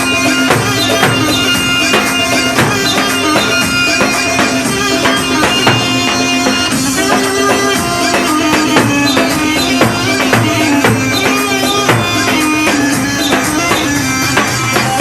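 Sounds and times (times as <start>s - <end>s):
drum and tambourine beat: 0.0s - 15.0s
reedy keyboard lead melody: 0.0s - 15.0s.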